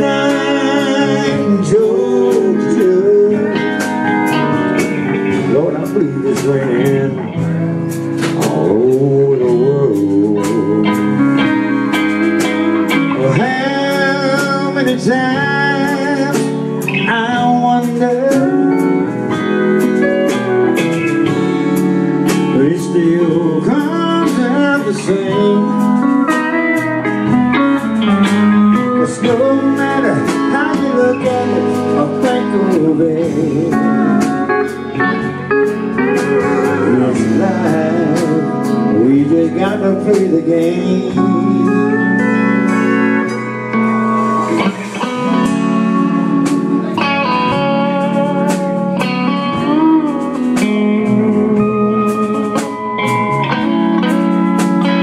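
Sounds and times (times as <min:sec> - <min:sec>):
band playing soul ballad: 0:00.0 - 0:55.0
lead guitar bending notes: 0:00.0 - 0:55.0.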